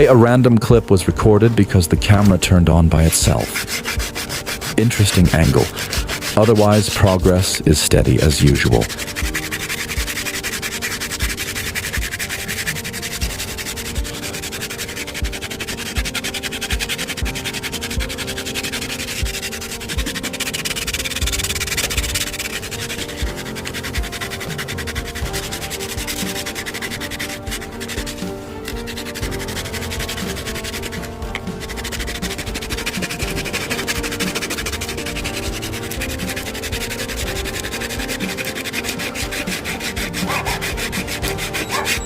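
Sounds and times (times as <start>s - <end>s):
sanding wooden block: 0.0s - 42.0s
slow background music: 0.0s - 42.0s.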